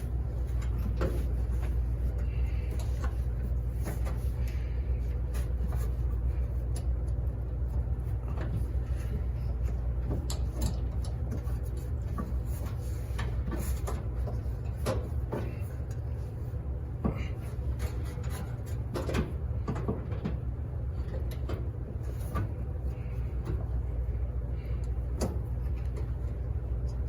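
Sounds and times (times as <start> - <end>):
laundry machines humming: 0.0 - 27.0.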